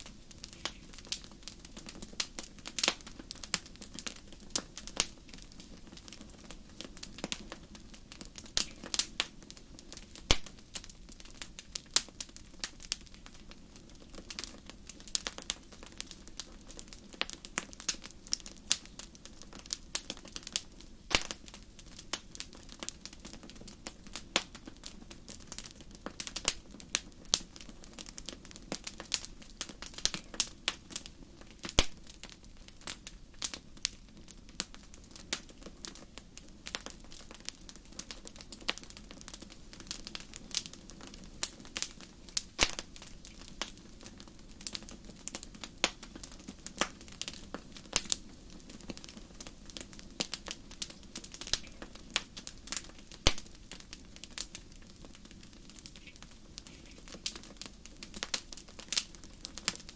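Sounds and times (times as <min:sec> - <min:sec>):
fire crackling: 0:00.0 - 0:59.9.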